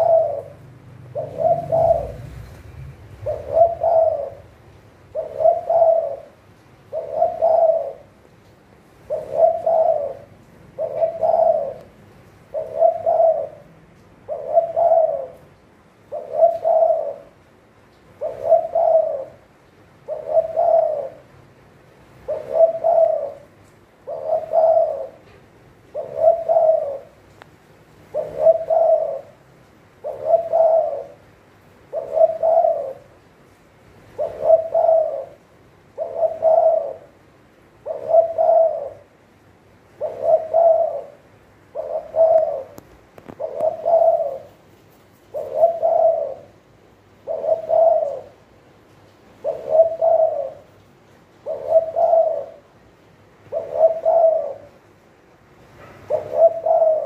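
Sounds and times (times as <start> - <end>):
dove cooing: 0.0 - 17.5, 18.1 - 27.4, 28.0 - 33.3, 34.0 - 55.0, 55.9 - 57.0.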